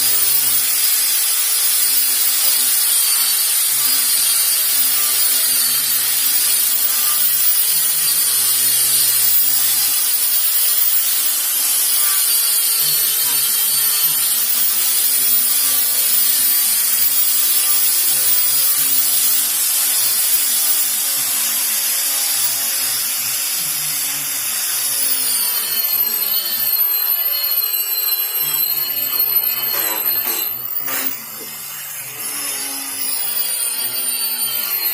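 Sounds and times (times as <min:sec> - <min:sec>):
electric sander on wood: 0:00.0 - 0:34.9.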